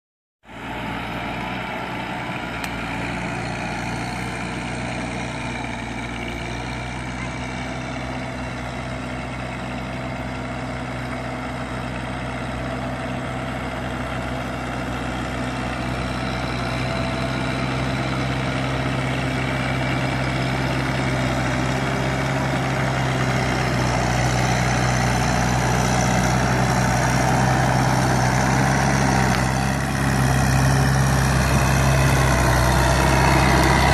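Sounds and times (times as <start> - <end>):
tractor engine running: 0.5 - 33.9.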